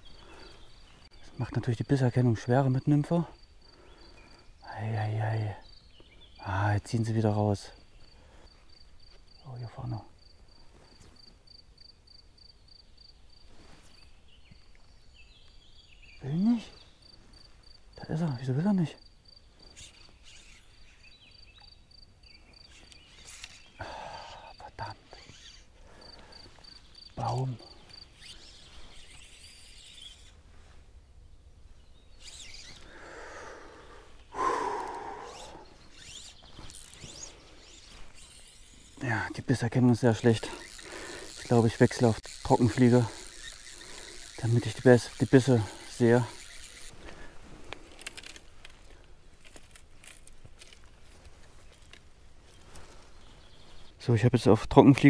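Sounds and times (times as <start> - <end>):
insect chirping: 0.0 - 54.9.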